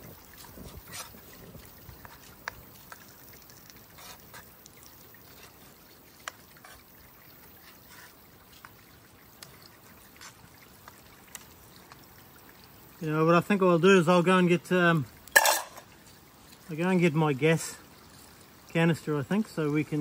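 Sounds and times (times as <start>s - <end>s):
creek trickling: 0.0s - 20.0s.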